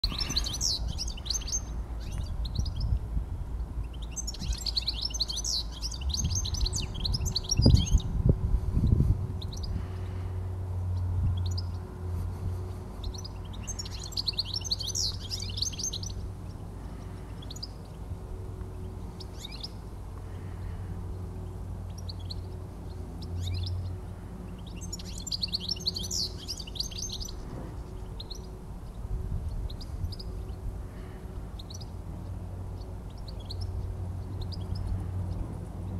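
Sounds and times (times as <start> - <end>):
goldfinch twittering song: 0.0 - 3.0, 3.8 - 8.1, 9.4 - 11.8, 12.5 - 35.5.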